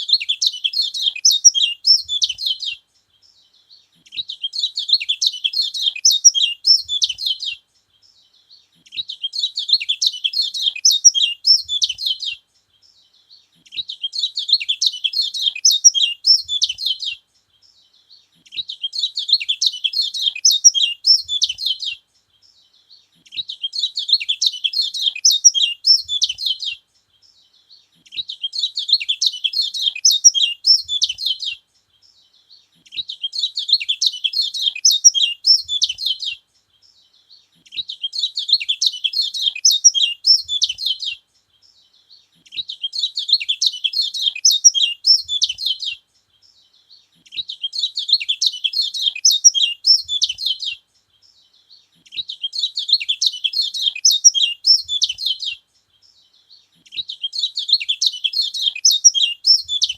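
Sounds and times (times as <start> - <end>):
songbird rapid high chirping: 0.0 - 59.9.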